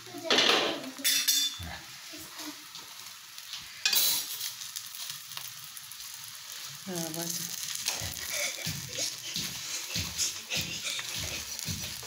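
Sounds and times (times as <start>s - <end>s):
omelette sizzling in oil: 0.0s - 12.0s
spatula working in pan: 0.1s - 12.0s.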